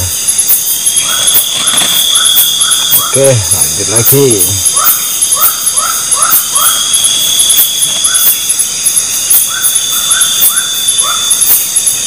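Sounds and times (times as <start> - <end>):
crickets chirping: 0.0 - 12.0
insects trilling: 0.0 - 12.0.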